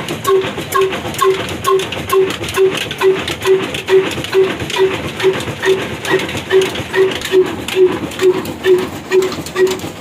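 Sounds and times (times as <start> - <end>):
diesel engine running slowly: 0.0 - 10.0.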